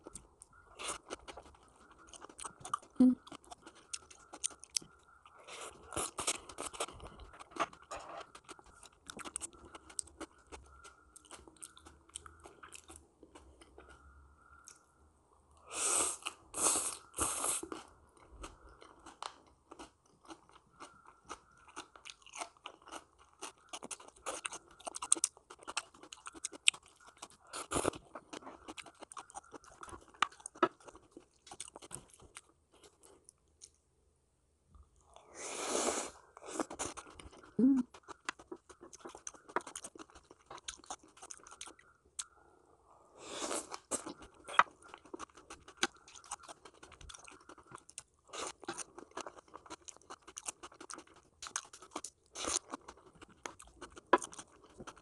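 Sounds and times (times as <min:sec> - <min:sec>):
chewing and crunching crisp food: 0:00.0 - 0:14.9, 0:15.5 - 0:33.9, 0:34.7 - 0:55.0.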